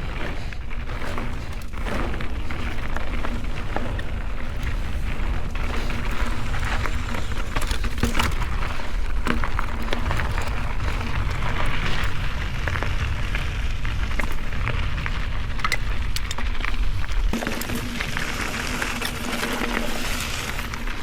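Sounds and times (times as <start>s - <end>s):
bike rattling with clicks: 0.0s - 21.0s
tyres crunching on gravel: 0.0s - 21.0s.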